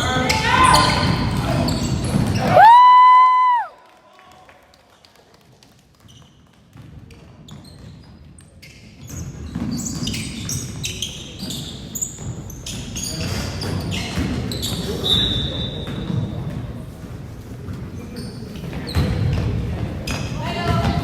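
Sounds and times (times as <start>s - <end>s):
sneakers squeaking on floor: 0.0s - 2.6s, 6.0s - 21.0s
crowd and player voices: 0.0s - 4.7s, 8.2s - 21.0s.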